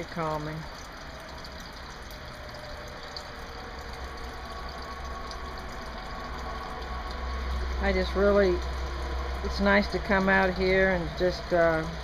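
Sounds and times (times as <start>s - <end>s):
fountain water splashing: 0.0s - 12.0s
low steady hum: 0.0s - 12.0s.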